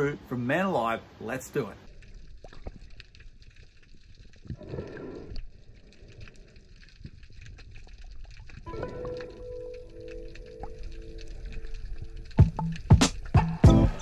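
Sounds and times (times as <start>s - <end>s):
faint clicks and crackles: 1.8s - 13.5s.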